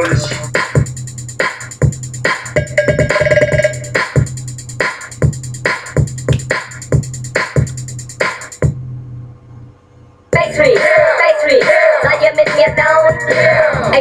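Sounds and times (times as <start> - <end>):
hip-hop beat over loudspeakers: 0.0 - 8.8, 10.4 - 14.0.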